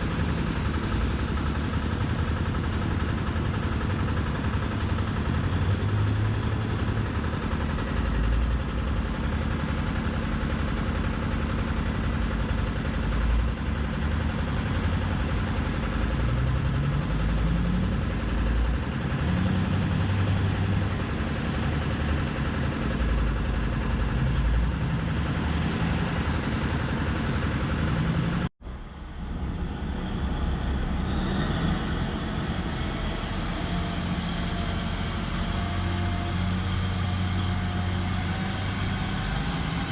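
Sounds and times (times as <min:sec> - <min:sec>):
truck diesel engine rumbling: 0:00.0 - 0:39.9.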